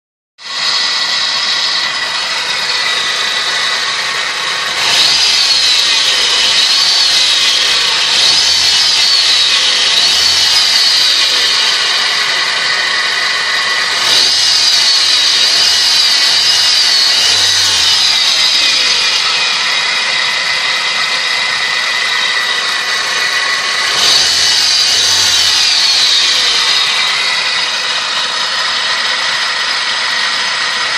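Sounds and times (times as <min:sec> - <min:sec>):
power-steering pump whining: 0:00.4 - 0:30.9.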